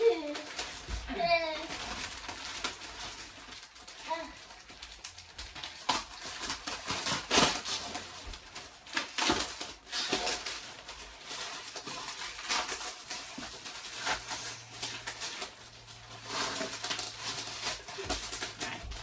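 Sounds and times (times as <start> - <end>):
plastic wrapping rustling: 0.0 - 19.0.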